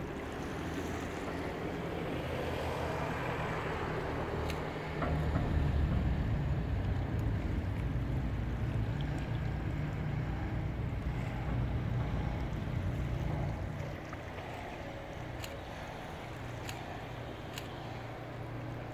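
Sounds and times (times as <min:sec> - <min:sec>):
ship diesel engine drone: 0:00.0 - 0:18.9.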